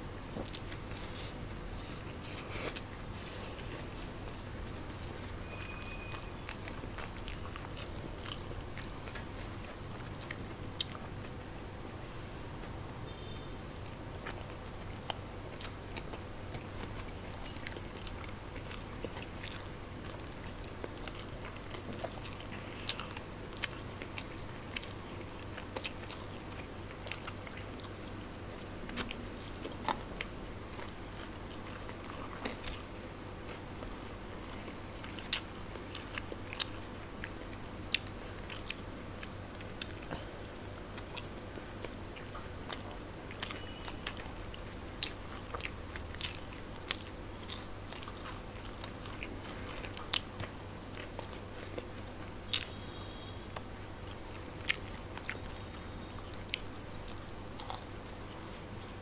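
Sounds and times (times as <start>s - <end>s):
crunchy food chewing: 0.0s - 59.0s
faint low hum: 0.0s - 59.0s.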